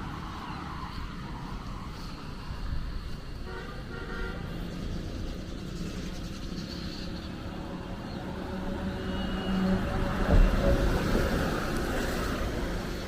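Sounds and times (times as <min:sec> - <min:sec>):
vehicle engines passing: 0:00.0 - 0:13.0.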